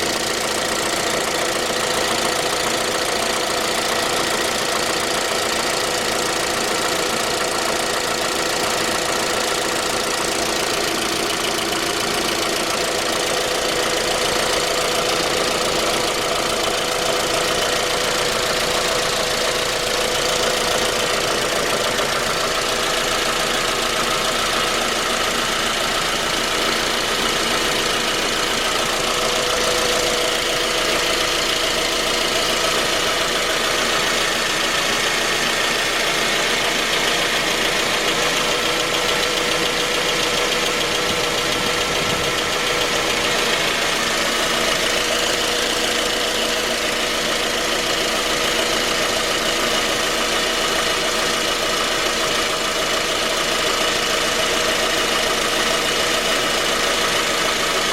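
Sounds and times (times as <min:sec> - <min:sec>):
car engine running with knock: 0:00.0 - 0:57.9.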